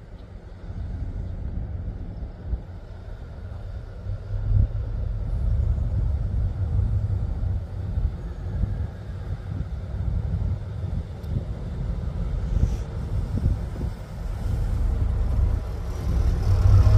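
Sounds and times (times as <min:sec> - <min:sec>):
diesel locomotive engine rumble: 0:00.0 - 0:16.9.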